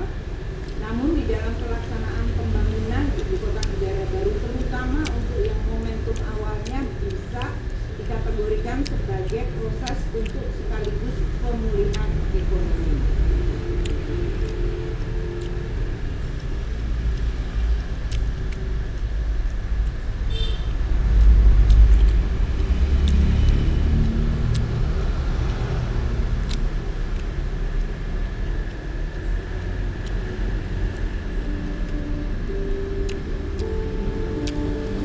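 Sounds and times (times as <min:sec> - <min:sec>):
road traffic rumble: 0:00.0 - 0:35.0
vehicle passing: 0:00.0 - 0:35.0.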